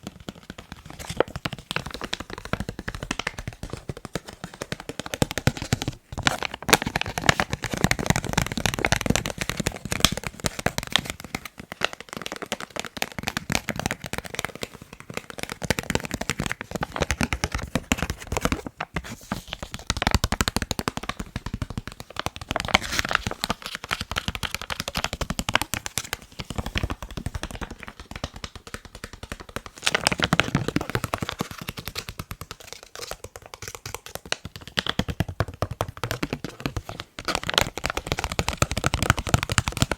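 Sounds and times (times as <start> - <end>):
fingertips tapping on face mask: 0.0 - 39.9.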